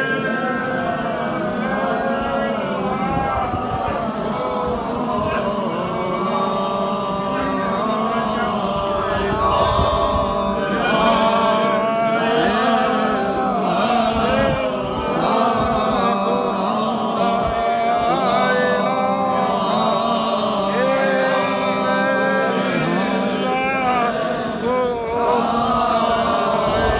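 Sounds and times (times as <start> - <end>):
men chanting together: 0.0 - 26.9.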